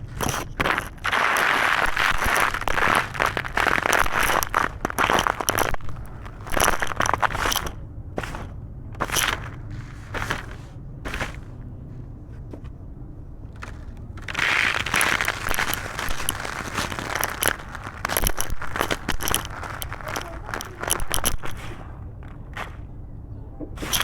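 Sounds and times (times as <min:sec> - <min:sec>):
concrete crumbling and crunching: 0:00.0 - 0:11.6, 0:13.5 - 0:21.8.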